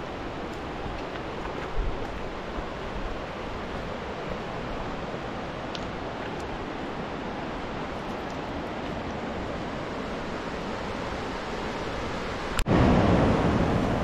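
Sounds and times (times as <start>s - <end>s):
river running over rocks: 0.0s - 14.0s.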